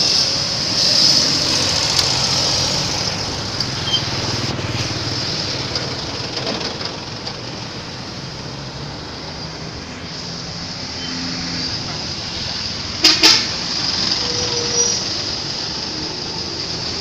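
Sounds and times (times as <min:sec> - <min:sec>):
heavy vehicle engine rumbling: 0:00.0 - 0:17.0
road noise hiss: 0:00.0 - 0:17.0.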